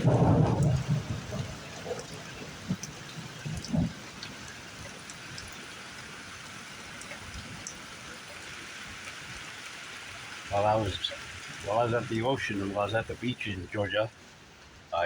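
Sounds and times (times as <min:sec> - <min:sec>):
drips ticking: 0:00.0 - 0:14.8
heavy rain: 0:00.0 - 0:15.0.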